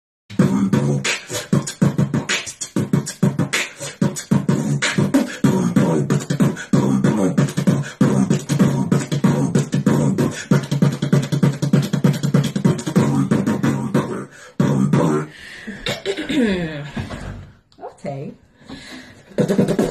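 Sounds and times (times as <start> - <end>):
person beatboxing: 0.3 - 16.7, 19.2 - 19.9.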